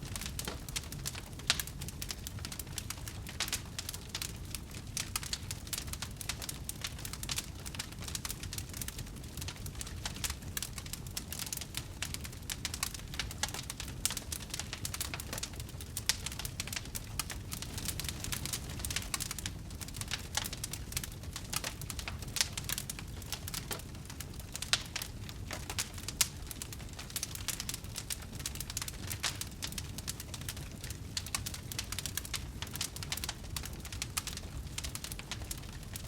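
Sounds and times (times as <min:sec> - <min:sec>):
low rumble of burning: 0:00.0 - 0:36.0
wood fire crackling: 0:00.0 - 0:36.0
loud pops of fire: 0:00.1 - 0:36.0.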